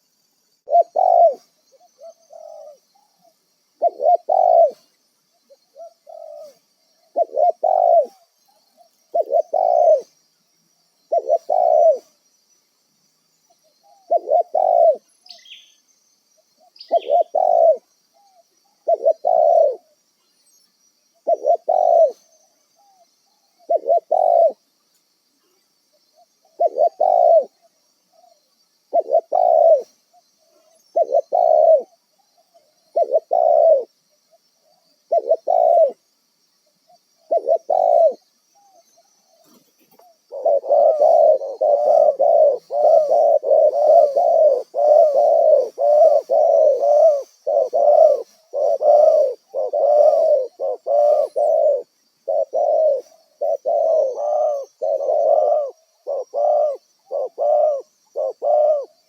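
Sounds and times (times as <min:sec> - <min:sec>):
dove cooing: 0:00.6 - 0:10.2, 0:11.0 - 0:12.2, 0:13.6 - 0:15.6, 0:16.6 - 0:20.0, 0:21.1 - 0:24.6, 0:25.4 - 0:36.0, 0:36.9 - 0:59.0.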